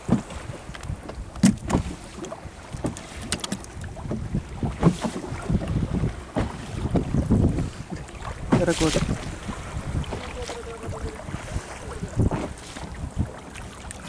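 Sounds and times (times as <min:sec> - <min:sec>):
hull knocks and water slaps: 0:00.0 - 0:14.0
wind buffeting microphone: 0:00.0 - 0:14.0.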